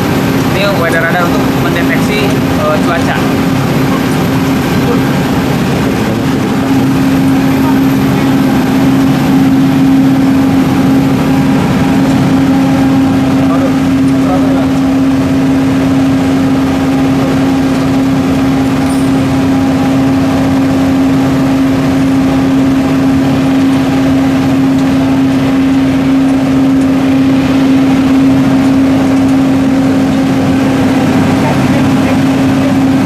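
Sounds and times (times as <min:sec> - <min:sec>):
steady machinery hum: 0:00.0 - 0:33.0.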